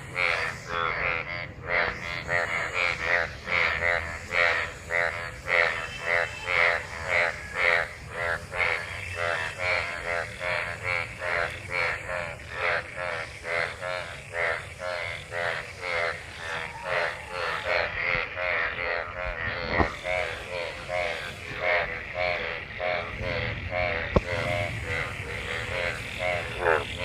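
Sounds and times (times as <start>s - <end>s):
frogs croaking: 0.0s - 27.0s.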